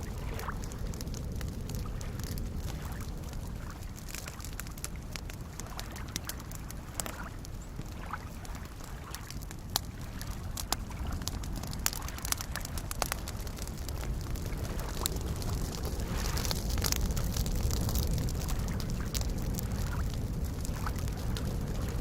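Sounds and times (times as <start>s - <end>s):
small waves lapping at shore: 0.0s - 20.1s
campfire crackling and popping: 0.0s - 22.0s.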